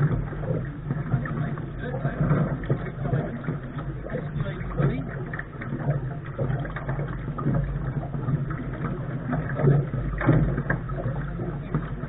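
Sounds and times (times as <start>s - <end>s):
boat knocks and splashes: 0.0s - 12.0s
wind and water rush: 0.0s - 12.0s.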